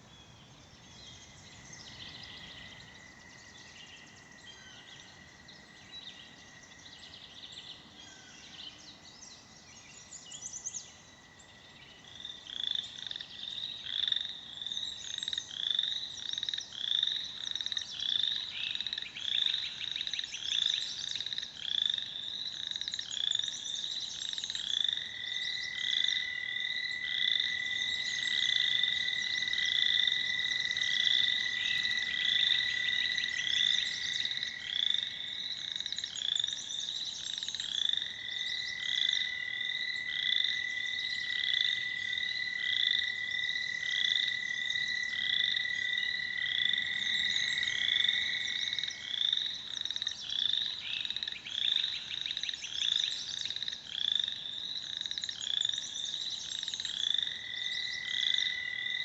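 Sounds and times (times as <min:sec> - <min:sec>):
treefrogs pulsed trills: 0:00.0 - 0:59.0.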